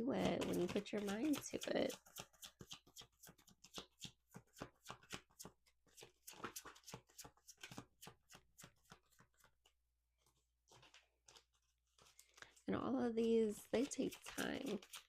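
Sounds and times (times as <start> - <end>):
cards being shuffled: 0.2 - 12.6, 13.6 - 15.0.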